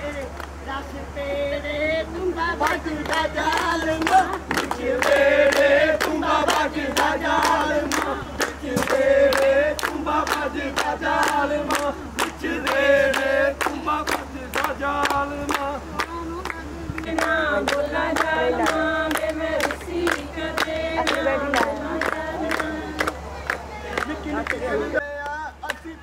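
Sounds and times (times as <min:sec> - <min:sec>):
group singing a chant: 0:00.0 - 0:23.2
sharp hand claps: 0:02.6 - 0:24.6.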